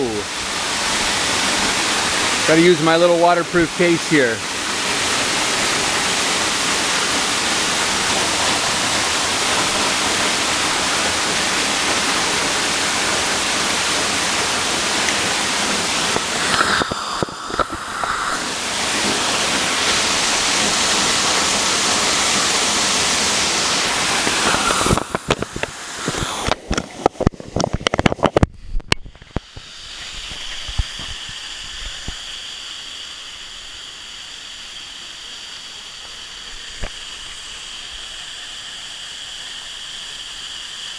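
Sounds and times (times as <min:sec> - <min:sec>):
rush of falling water: 0:00.0 - 0:40.9.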